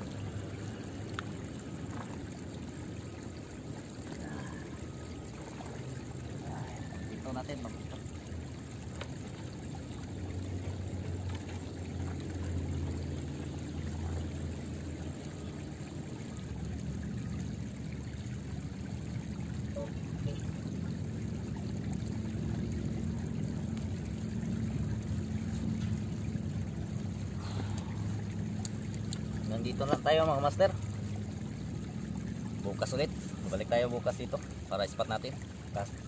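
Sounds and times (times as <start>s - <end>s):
river water flowing: 0.0s - 36.0s.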